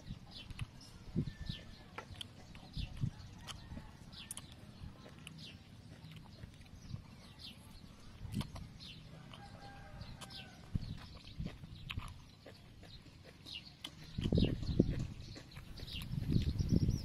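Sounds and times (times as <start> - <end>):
chewing: 0.0 - 16.7
birds chirping: 0.0 - 17.0.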